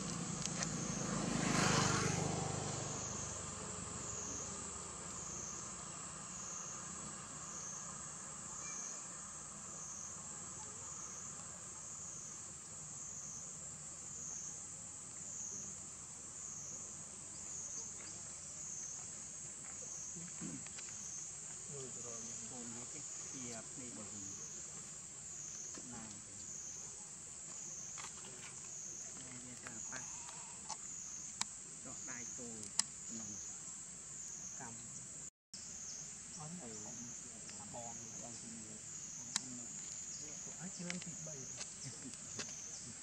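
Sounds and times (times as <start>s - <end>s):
insects chorus: 0.0s - 43.0s.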